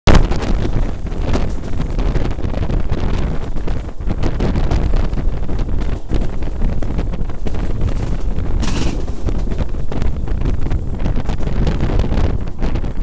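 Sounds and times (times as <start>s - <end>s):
train rumbling on rails: 0.1s - 13.0s
wind buffeting microphone: 0.1s - 13.0s.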